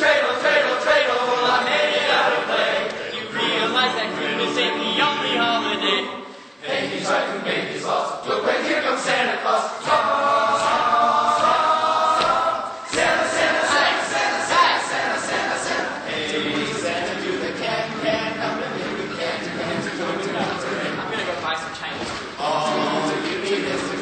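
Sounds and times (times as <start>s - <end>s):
choir singing in harmony: 0.0s - 21.3s, 22.4s - 24.0s.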